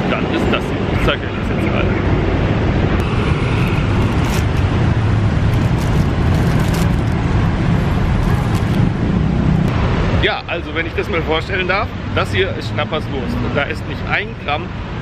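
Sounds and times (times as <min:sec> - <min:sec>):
road traffic: 0:00.0 - 0:15.0
vehicles passing close by: 0:00.0 - 0:15.0.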